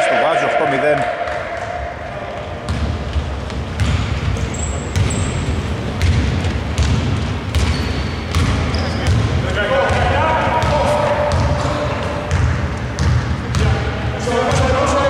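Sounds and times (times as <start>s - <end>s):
basketball dribbling on court: 2.3s - 14.9s.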